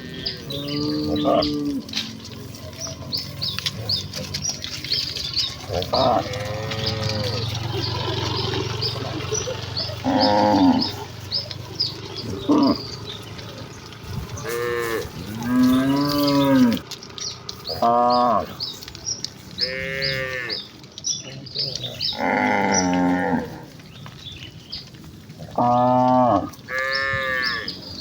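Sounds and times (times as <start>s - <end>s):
cows mooing: 0.0s - 23.9s, 25.4s - 28.0s.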